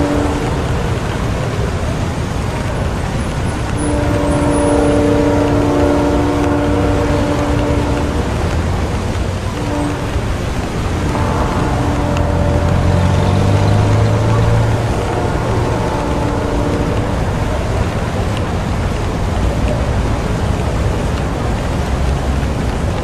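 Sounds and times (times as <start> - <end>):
steady rain: 0.0 - 23.0
vehicle engine hum: 0.0 - 23.0.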